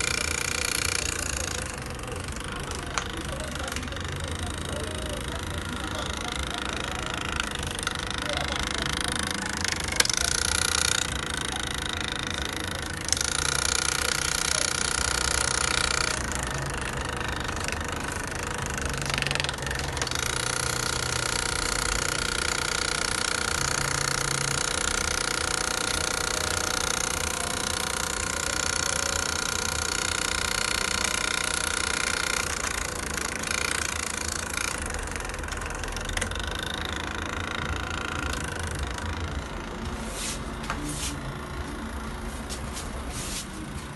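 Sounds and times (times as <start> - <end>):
printer motors whining: 0.0 - 43.9.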